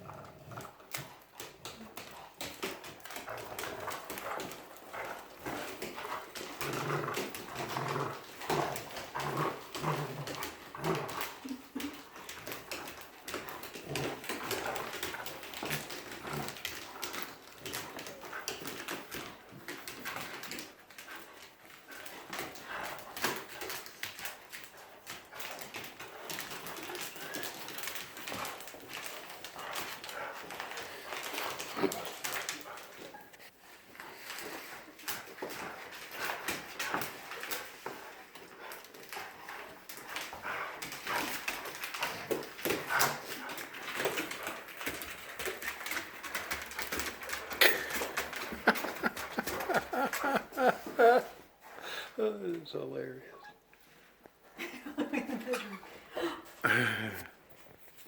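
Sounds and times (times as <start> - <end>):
dogs scuffling over a toy: 0.1 - 51.8.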